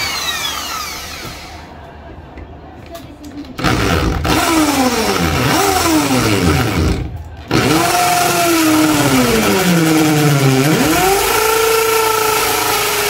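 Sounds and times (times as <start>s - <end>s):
electric drill boring: 0.0s - 1.6s, 3.6s - 13.0s.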